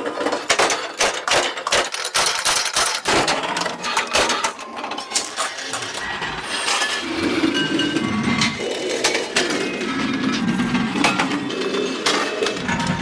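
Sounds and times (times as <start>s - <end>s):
metallic clanks of steel parts: 0.1s - 13.0s.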